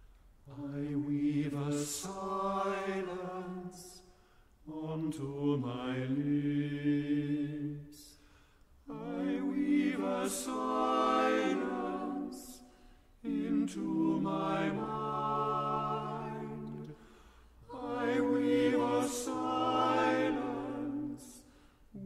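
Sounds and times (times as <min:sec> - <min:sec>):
choir singing unaccompanied: 0:00.5 - 0:04.0, 0:04.7 - 0:07.8, 0:08.9 - 0:22.0.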